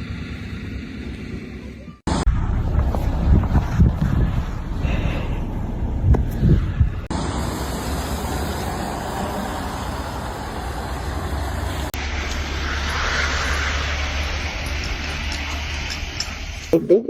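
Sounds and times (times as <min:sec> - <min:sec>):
vehicle low rumble: 0:00.0 - 0:17.0
road hiss: 0:02.8 - 0:16.8.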